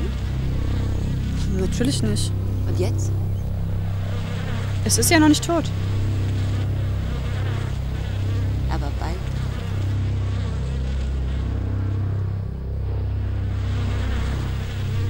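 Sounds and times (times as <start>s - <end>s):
low buzzing hum: 0.0s - 15.0s.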